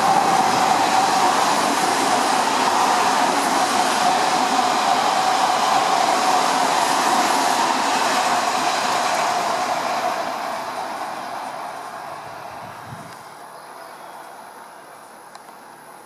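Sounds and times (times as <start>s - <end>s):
train hum: 0.0s - 16.0s
train wheels rolling on rail: 0.0s - 16.0s.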